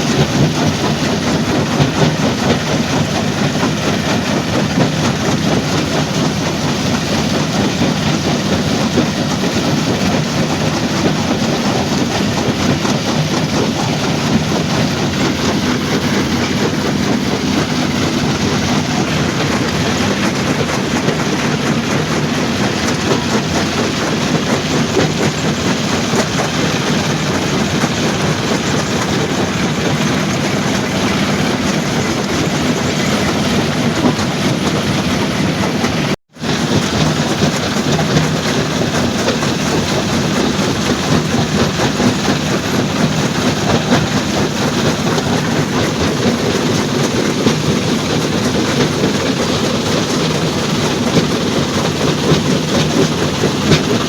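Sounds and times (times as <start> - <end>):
stone crushing machinery rattling: 0.0 - 54.0.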